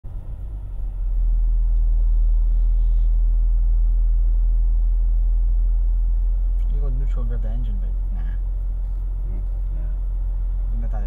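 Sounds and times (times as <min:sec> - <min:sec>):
car idling rumble: 0:00.0 - 0:11.0.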